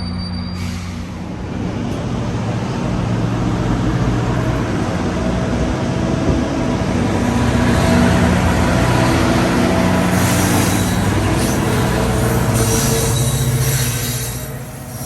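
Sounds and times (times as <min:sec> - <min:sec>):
diesel locomotive engine running: 0:00.0 - 0:15.0
train passing: 0:00.0 - 0:15.0.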